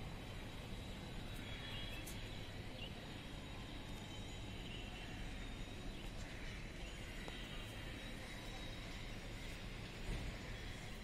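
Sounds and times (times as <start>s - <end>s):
thin steady high tone: 0.0s - 11.0s
faint high chirping calls: 0.5s - 9.4s.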